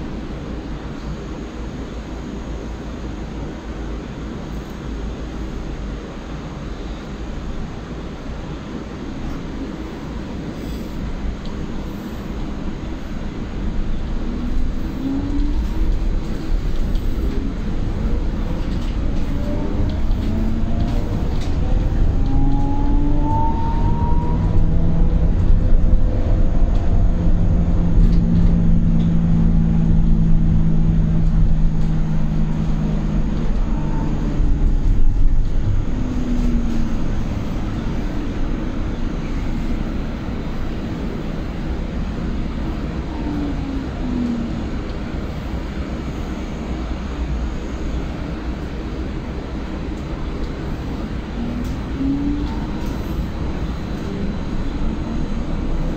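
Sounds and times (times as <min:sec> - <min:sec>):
electric bus motor whine: 0:00.0 - 0:55.9
road and tyre rumble: 0:00.0 - 0:55.9.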